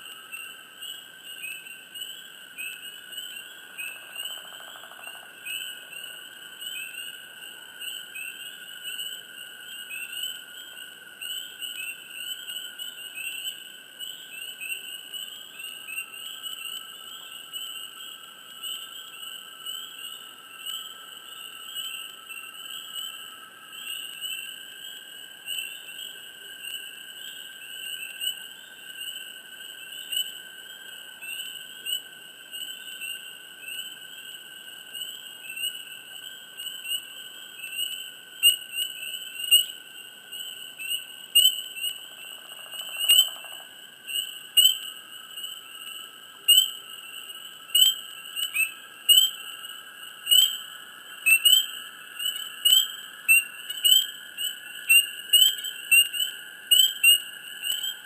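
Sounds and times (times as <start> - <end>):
frogs chirping: 0.0 - 58.0.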